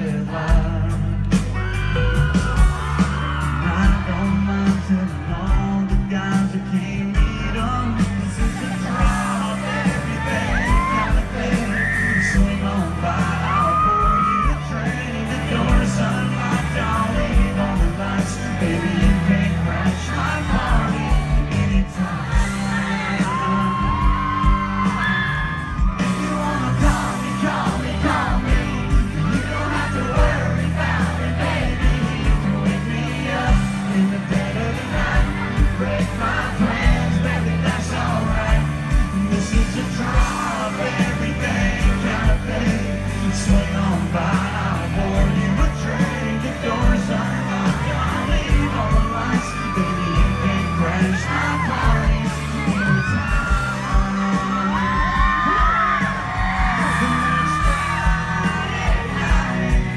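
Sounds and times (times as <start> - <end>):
crowd yelling and whooping: 0.0 - 59.9
live country band: 0.0 - 59.9
man singing: 0.0 - 59.9.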